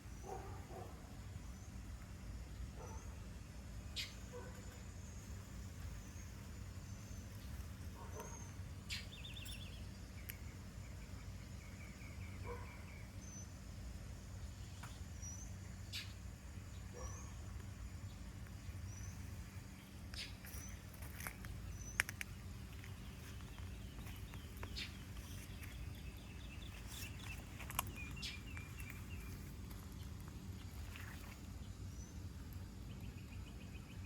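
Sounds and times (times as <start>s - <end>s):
steady low hum: 0.0s - 34.0s
small bird chirping: 3.9s - 13.6s, 14.6s - 34.0s.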